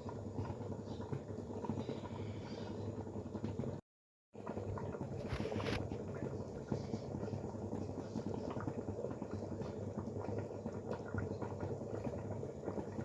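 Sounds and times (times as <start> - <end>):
pot bubbling and simmering: 0.0 - 13.0.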